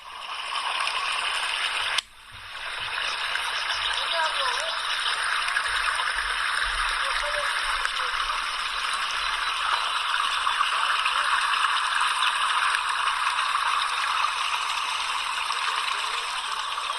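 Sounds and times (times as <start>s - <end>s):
running water splashing: 0.0s - 16.9s.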